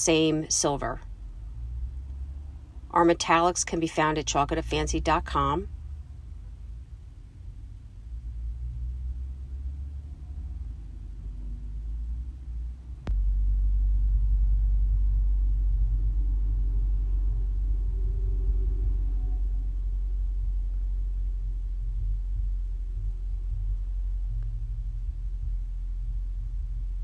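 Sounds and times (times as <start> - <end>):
low rumble: 0.0 - 27.0.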